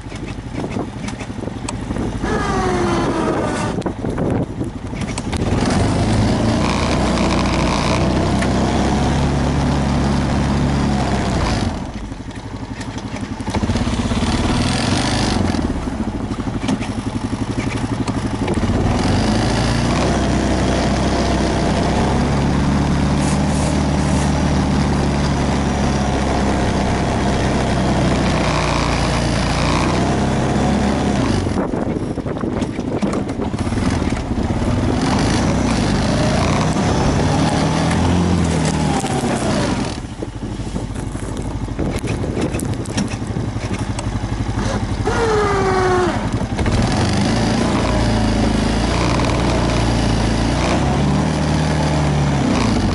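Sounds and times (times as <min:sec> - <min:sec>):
engine humming: 0:00.0 - 0:52.9.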